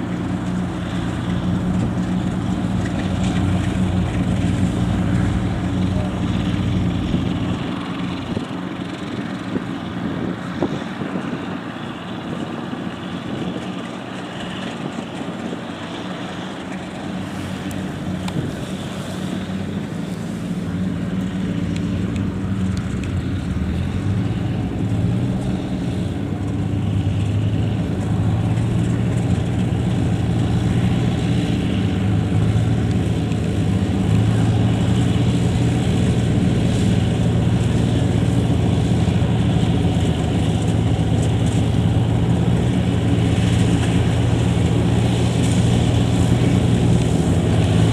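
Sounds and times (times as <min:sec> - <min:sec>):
combine harvester diesel engine: 0:00.0 - 0:47.9
threshing machinery noise: 0:00.0 - 0:47.9.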